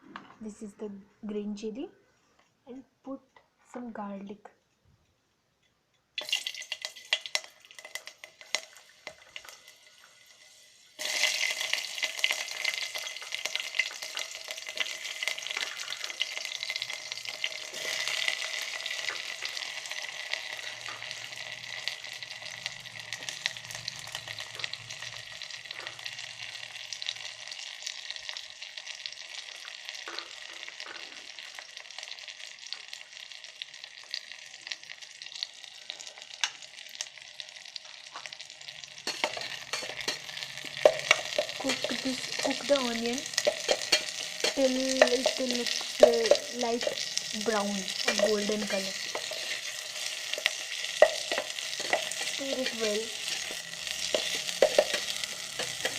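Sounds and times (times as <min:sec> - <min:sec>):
hot oil crackling: 0:06.1 - 0:55.9
vegetables sizzling in oil: 0:06.2 - 0:55.9.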